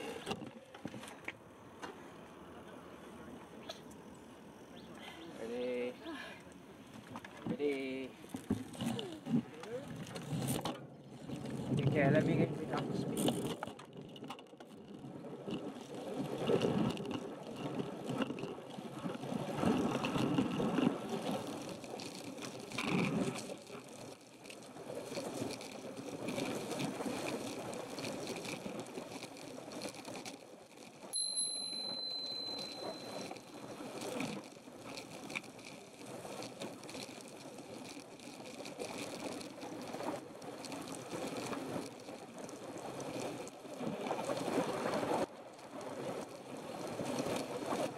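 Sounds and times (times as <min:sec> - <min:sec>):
bike rolling noise: 0:00.0 - 0:47.9.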